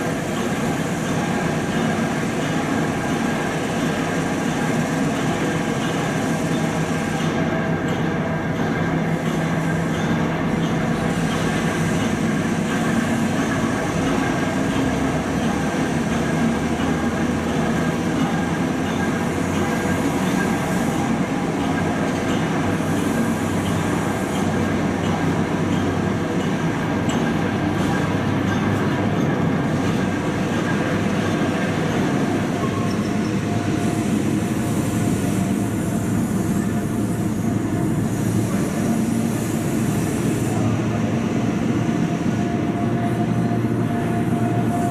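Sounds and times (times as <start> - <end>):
diesel locomotive engine rumble: 0.0 - 44.9.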